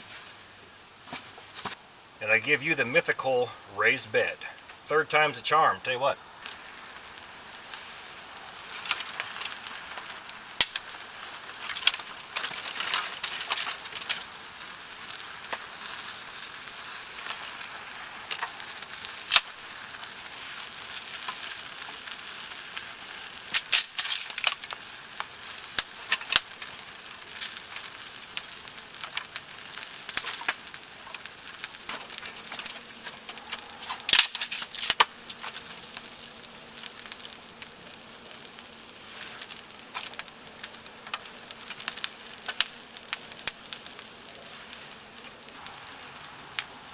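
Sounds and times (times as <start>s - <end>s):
wood fire crackling: 0.0s - 46.9s
sharp pops of fire: 2.5s - 46.9s.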